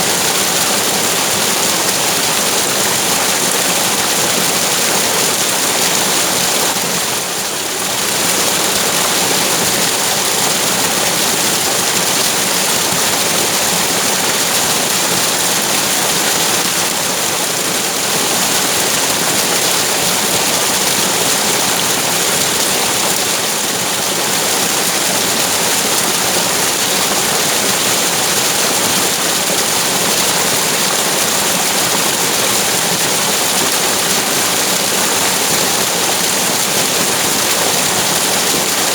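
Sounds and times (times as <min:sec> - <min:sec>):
rush of flowing water: 0:00.0 - 0:38.9.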